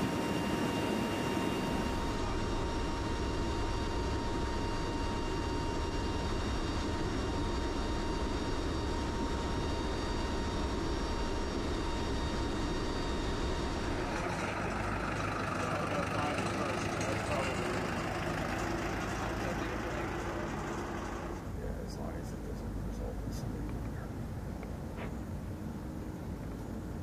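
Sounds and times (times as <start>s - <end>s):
aircraft engine noise: 0.0s - 27.0s
thin steady whine: 0.0s - 27.0s.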